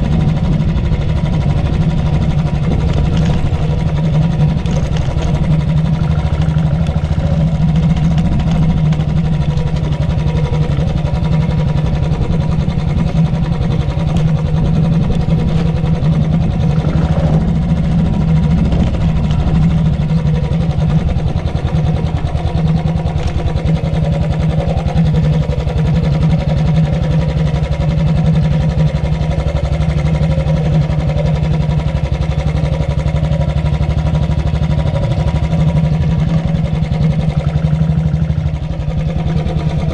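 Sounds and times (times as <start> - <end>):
single-cylinder engine thumping: 0.0 - 39.9.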